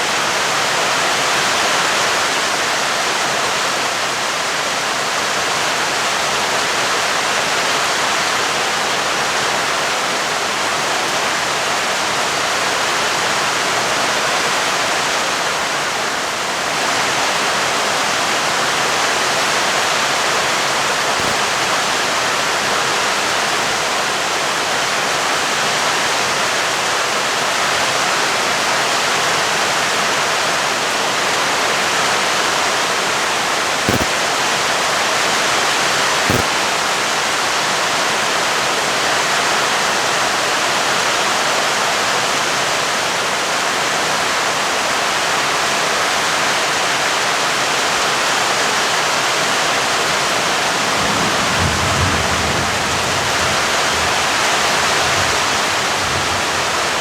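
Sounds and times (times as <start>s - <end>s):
heavy rain hiss: 0.0s - 40.7s, 48.7s - 57.0s.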